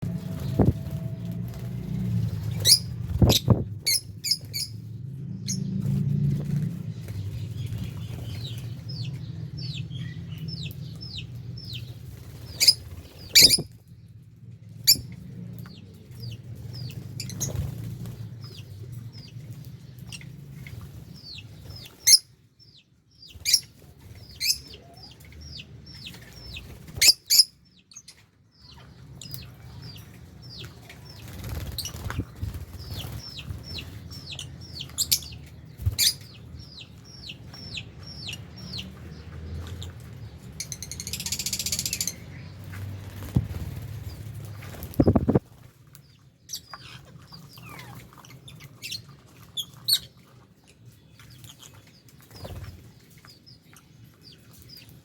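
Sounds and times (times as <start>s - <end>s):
flock of birds chirping: 0.0s - 55.0s.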